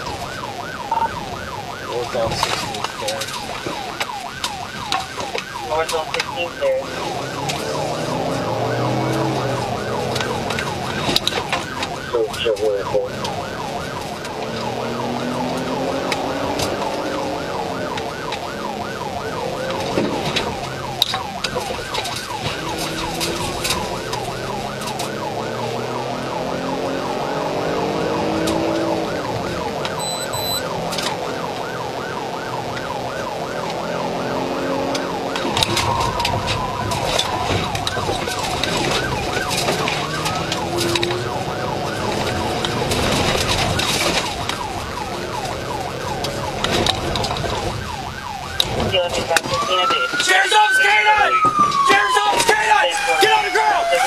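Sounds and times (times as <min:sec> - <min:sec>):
car engine revving: 0:00.0 - 0:54.0
police siren yelping: 0:00.0 - 0:54.0.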